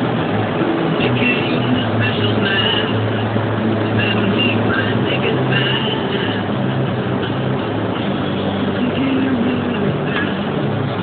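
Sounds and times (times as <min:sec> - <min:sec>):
road noise hiss: 0:00.0 - 0:11.0
vehicle engine hum: 0:00.0 - 0:11.0.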